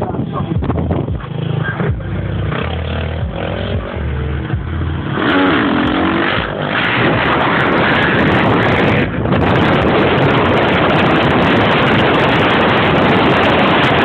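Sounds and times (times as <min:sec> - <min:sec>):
dirt bikes revving: 0:00.0 - 0:14.0
engine rush with gliding pitch: 0:00.0 - 0:14.0.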